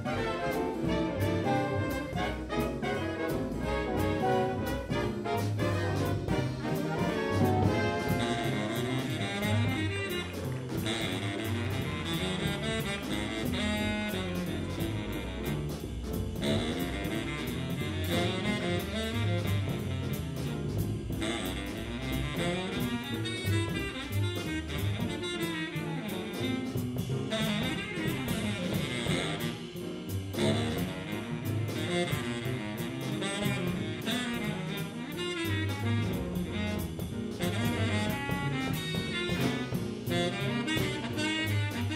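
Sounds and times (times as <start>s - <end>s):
baritone saxophone solo: 0.0s - 41.9s
brass section: 0.0s - 41.9s
drum kit: 0.0s - 41.9s
piano: 0.0s - 41.9s
upright bass: 0.0s - 41.9s.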